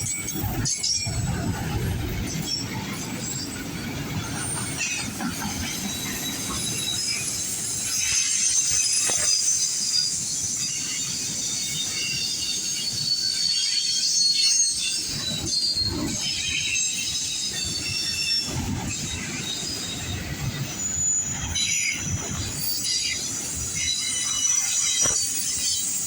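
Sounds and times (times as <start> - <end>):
freight train rumble: 0.0 - 26.0
wheel flanges squealing on rail: 0.0 - 26.0.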